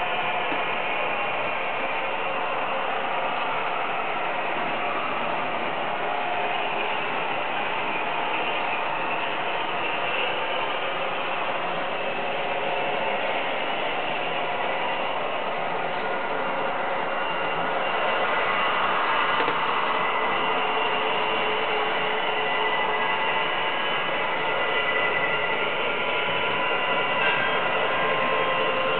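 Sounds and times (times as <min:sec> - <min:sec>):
model train motors whirring: 0:00.0 - 0:28.9
wheels rattling on rail: 0:00.0 - 0:28.9.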